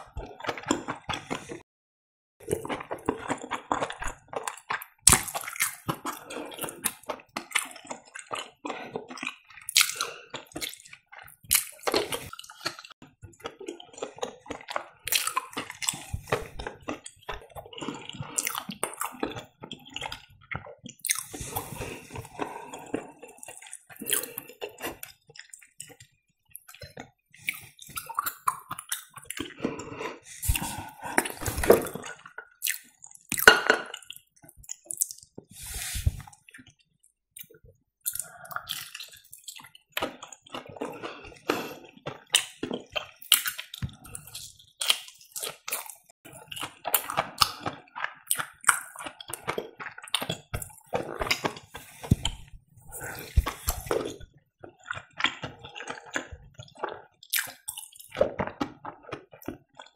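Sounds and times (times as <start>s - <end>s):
chewing fried cheese: 0.0s - 1.6s, 2.4s - 35.5s, 36.2s - 59.9s.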